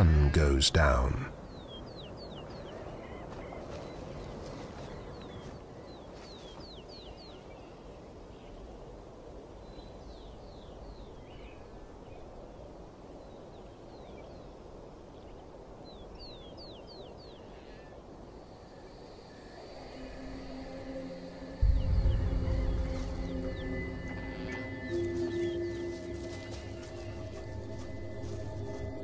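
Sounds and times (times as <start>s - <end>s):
faint low background noise: 0.0s - 29.0s.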